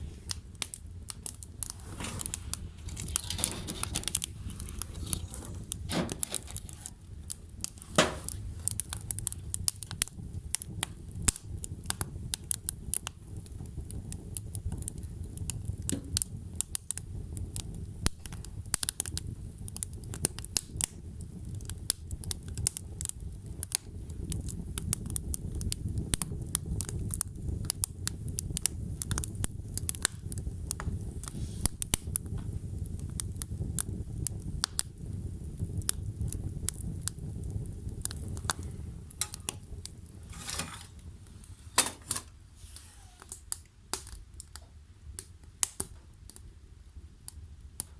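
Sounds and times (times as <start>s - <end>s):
logs crackling and popping: 0.0s - 47.9s
low rumble of flames: 0.0s - 47.9s.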